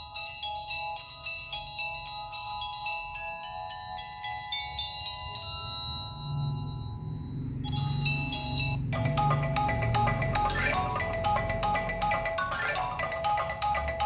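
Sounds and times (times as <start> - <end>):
electronic ringtone melody: 0.0 - 14.0.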